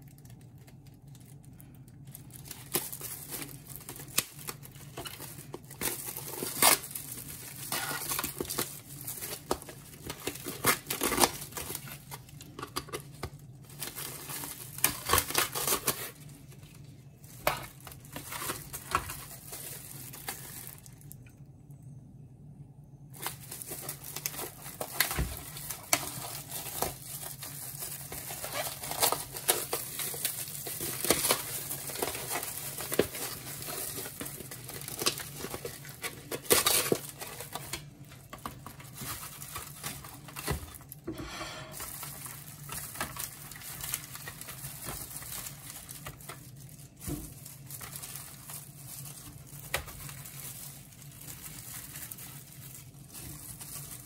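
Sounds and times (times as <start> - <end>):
cling film crinkling: 0.0 - 21.2, 23.1 - 41.0, 41.8 - 54.0
paper and meat rustling: 2.0 - 21.0, 23.2 - 41.0, 41.7 - 54.0.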